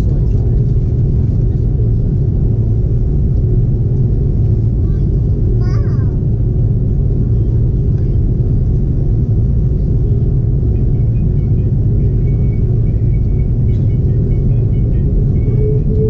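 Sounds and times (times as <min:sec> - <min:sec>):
jet engines rumbling while taxiing: 0:00.0 - 0:16.0.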